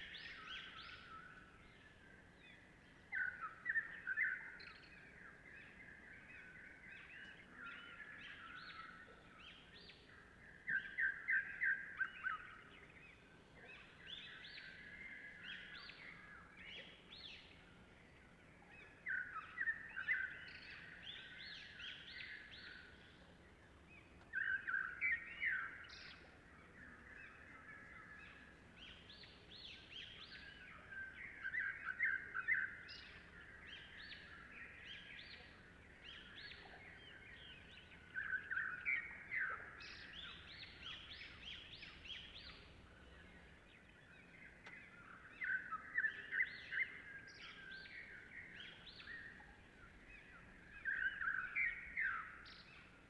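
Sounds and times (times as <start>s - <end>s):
birds chirping: 0.0s - 53.0s
faint background hiss: 0.0s - 53.0s.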